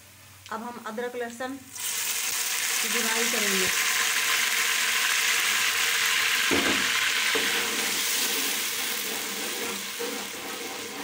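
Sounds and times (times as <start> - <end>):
paste sizzling in hot oil: 1.7 - 11.0.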